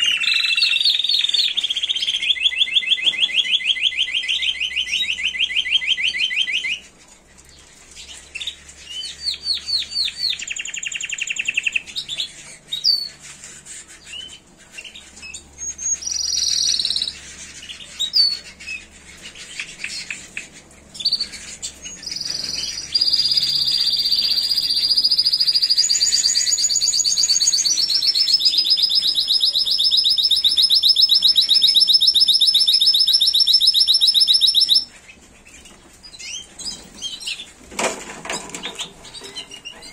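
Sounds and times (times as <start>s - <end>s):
canary singing trilled notes: 0.0s - 37.5s.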